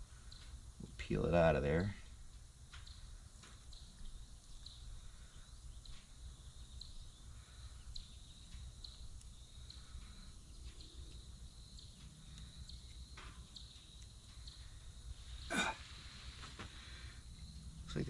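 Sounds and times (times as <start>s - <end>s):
faint insect chirping: 0.0s - 18.0s.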